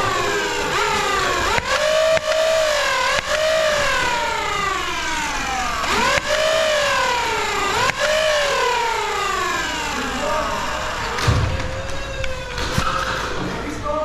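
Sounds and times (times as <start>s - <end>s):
toy blaster motors whining: 0.0s - 13.9s.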